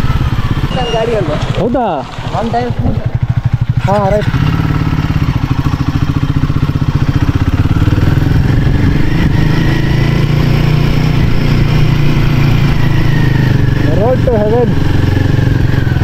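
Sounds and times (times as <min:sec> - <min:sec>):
motorcycle engine chugging: 0:00.0 - 0:16.0.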